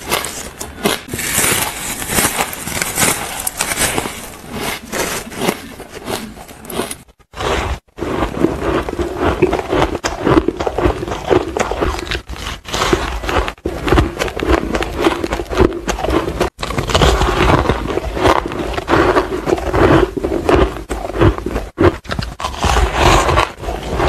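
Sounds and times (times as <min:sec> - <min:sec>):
crunching chewing of ice: 0:00.0 - 0:24.0.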